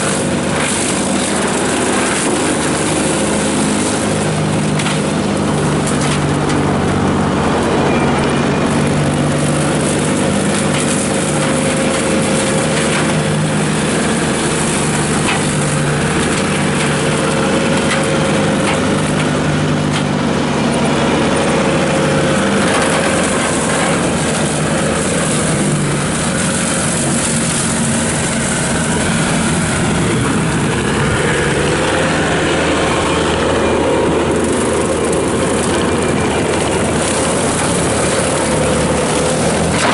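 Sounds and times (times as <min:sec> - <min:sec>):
brush cutter mulching brush: 0:00.0 - 0:39.9
diesel engine running hard: 0:00.0 - 0:39.9.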